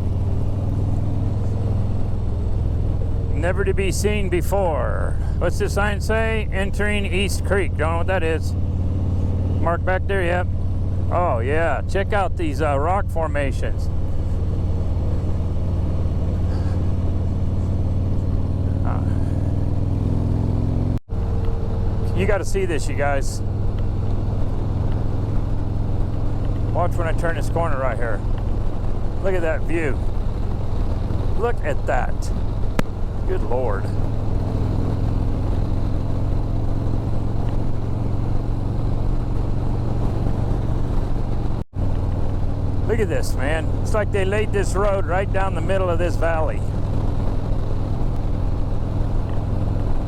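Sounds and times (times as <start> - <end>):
motorcycle engine droning: 0.0 - 50.0
road noise: 0.0 - 50.0
rushing wind: 0.0 - 50.0.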